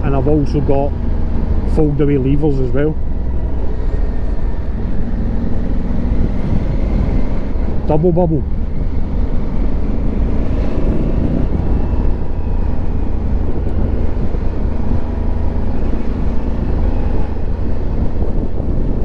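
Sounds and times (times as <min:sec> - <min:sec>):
motorcycle engine and wind rumble: 0:00.0 - 0:19.0.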